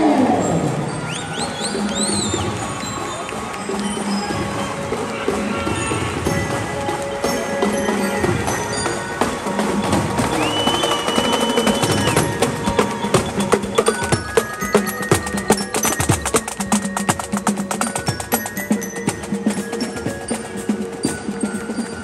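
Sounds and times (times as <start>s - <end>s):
drums: 0.0s - 22.0s
glockenspiel bells ringing: 0.5s - 22.0s.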